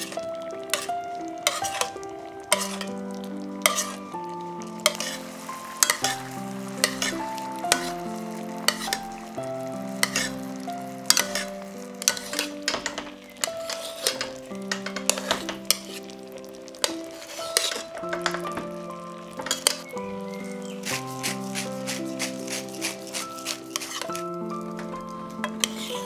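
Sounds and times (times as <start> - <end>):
metal spoon scraping a pan: 0.0 - 3.0, 3.6 - 4.1, 4.8 - 8.1, 8.7 - 9.1, 10.0 - 18.6, 19.4 - 19.9, 20.6 - 26.0
sauce sizzling in a pan: 0.0 - 26.0
soft background music: 0.0 - 26.0.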